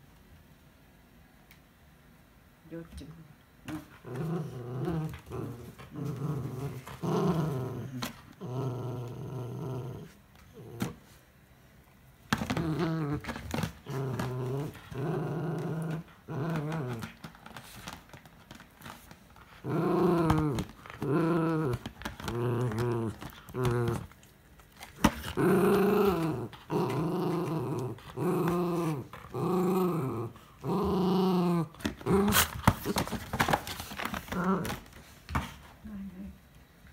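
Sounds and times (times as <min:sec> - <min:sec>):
dog play-growling: 0:03.6 - 0:11.2, 0:12.3 - 0:35.7.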